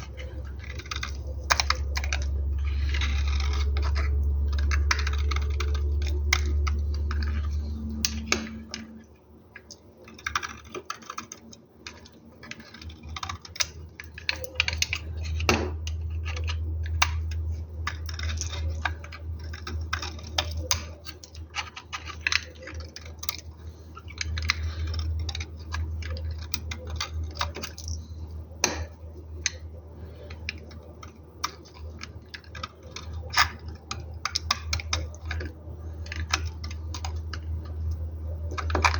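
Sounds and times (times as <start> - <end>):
knife cutting soap: 0.0 - 27.9, 28.6 - 38.9
steady low hum: 0.0 - 38.9.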